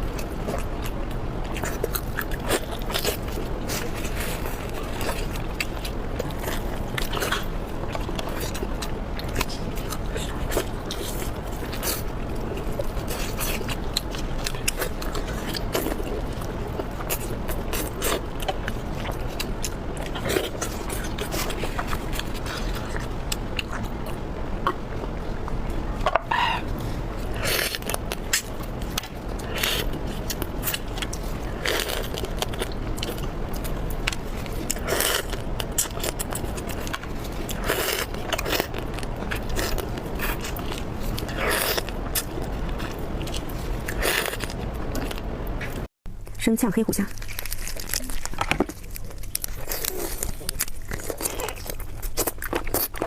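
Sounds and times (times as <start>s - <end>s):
chewing and crunching: 0.0s - 53.0s
steady low background noise: 0.0s - 53.0s.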